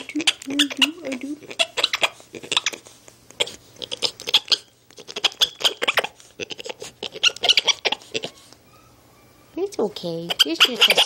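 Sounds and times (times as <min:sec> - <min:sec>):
monkey squeaky chirps and clicks: 0:00.0 - 0:02.8, 0:03.4 - 0:08.9, 0:10.2 - 0:11.0.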